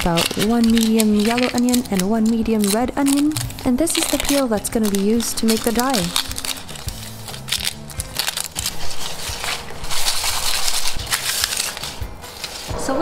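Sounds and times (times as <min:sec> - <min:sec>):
onion skins crackling: 0:00.0 - 0:12.7.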